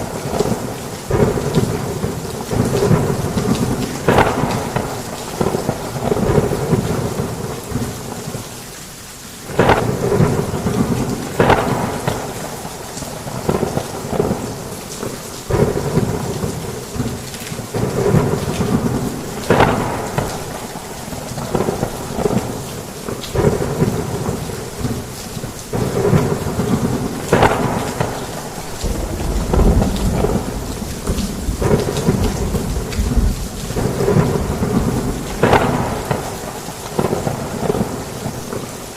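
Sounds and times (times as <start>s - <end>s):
thunder cracking and rumbling: 0.0s - 8.4s, 9.5s - 38.9s
heavy rain pouring: 0.0s - 38.9s.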